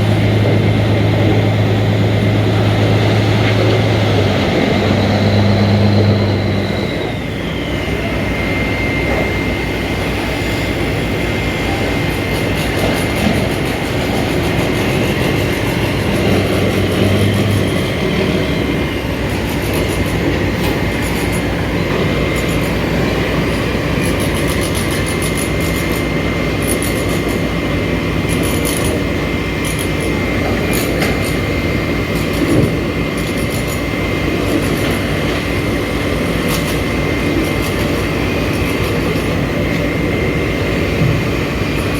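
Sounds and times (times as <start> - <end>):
diesel machinery running: 0.0 - 41.9
high whine: 0.0 - 41.9.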